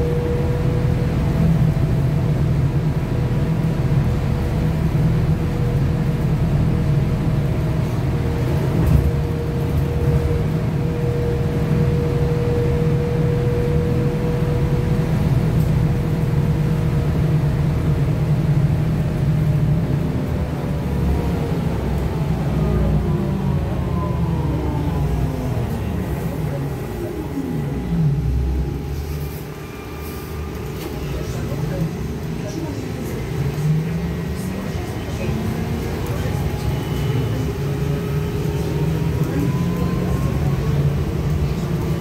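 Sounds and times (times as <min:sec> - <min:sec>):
trolleybus cabin rumble: 0:00.0 - 0:42.0.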